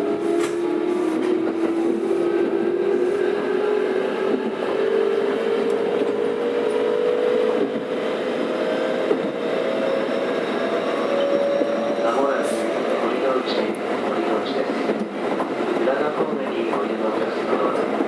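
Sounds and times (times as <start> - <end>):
wheel and rail rumble: 0.0 - 18.0.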